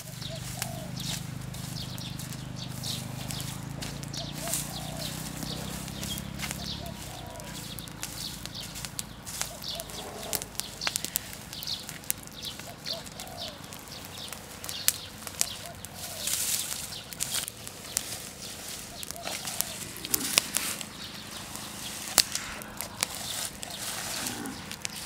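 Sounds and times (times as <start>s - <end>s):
fire crackling: 0.0s - 25.0s
sharp pops from fire: 0.0s - 25.0s.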